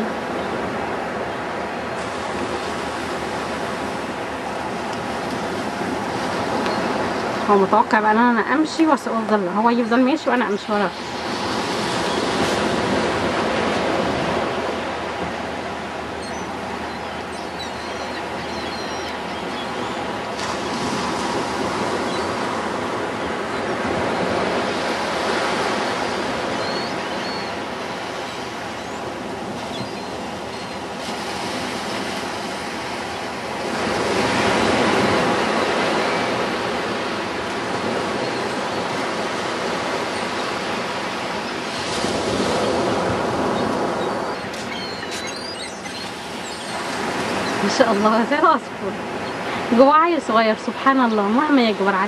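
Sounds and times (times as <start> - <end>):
ocean surf breaking: 0.0 - 52.0.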